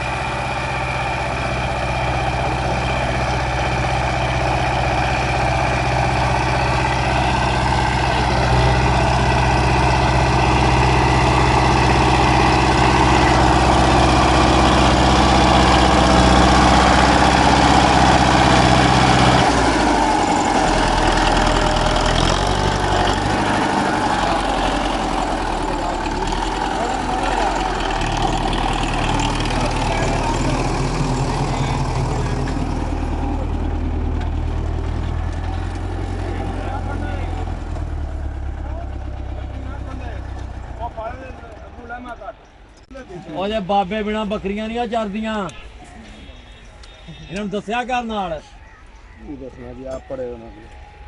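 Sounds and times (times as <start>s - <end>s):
tractor diesel engine running: 0.0s - 47.5s.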